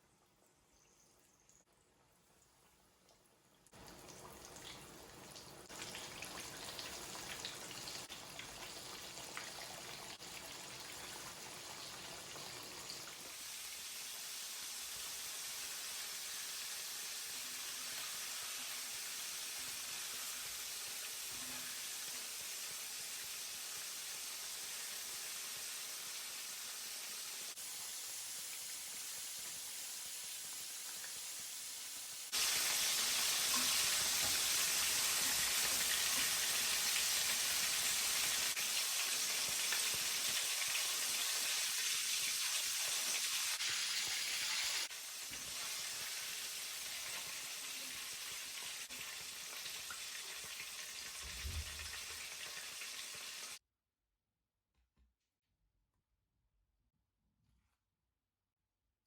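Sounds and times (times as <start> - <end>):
chicken frying in sizzling oil: 1.6 - 53.6.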